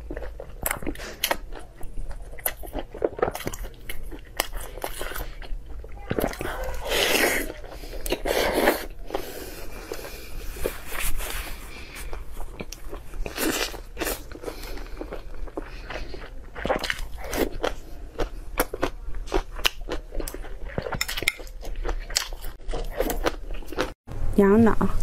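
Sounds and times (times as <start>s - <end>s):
crunchy chewing: 0.0s - 24.0s.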